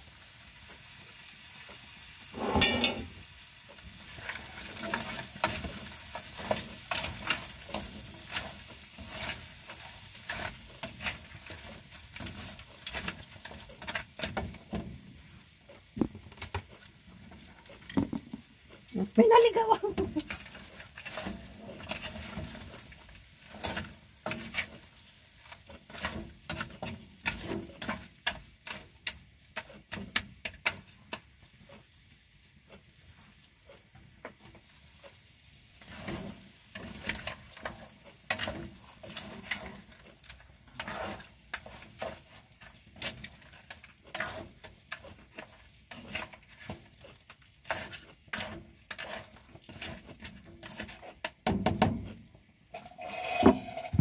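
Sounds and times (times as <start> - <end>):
faint frying sizzle: 0.0 - 54.0
spatula scraping a wok: 1.6 - 18.8, 19.9 - 51.4, 52.0 - 54.0.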